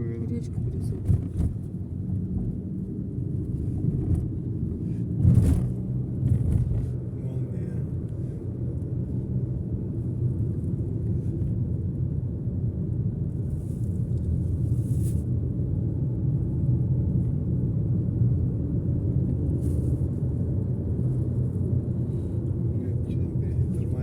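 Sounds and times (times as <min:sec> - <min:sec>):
road and engine rumble in car: 0:00.0 - 0:24.0.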